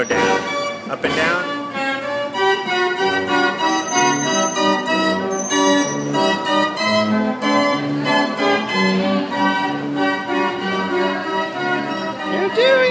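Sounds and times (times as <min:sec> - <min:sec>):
carousel organ music: 0:00.0 - 0:12.9.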